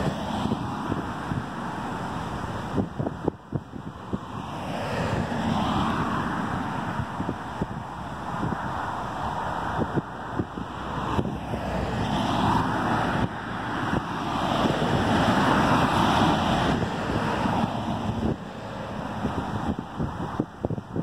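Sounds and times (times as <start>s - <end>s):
road traffic passing: 0.0s - 21.0s
wind on microphone: 0.0s - 21.0s.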